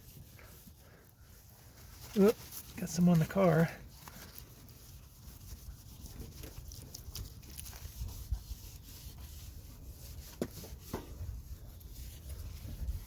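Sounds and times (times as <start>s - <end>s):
cloth rubbing on wet plastic: 0.0s - 13.0s.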